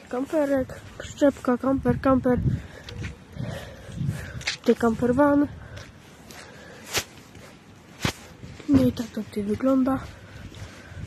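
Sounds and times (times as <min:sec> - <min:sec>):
footsteps on wet pavement: 0:00.0 - 0:11.0.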